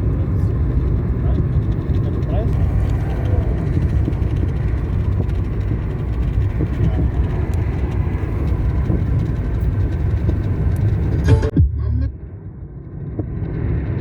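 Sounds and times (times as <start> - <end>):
car driving on road: 0.0 - 14.0.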